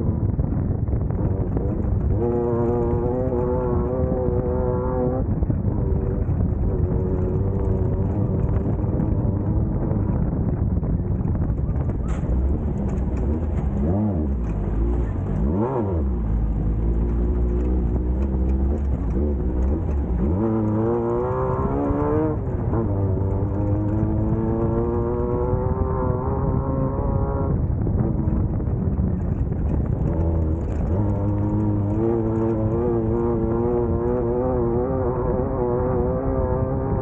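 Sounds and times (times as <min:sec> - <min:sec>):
race car engine running hard: 0:00.0 - 0:37.0.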